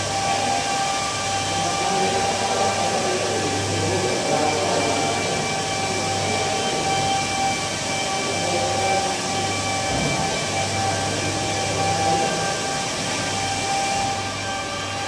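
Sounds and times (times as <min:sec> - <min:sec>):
electric polishers whirring: 0:00.0 - 0:15.0.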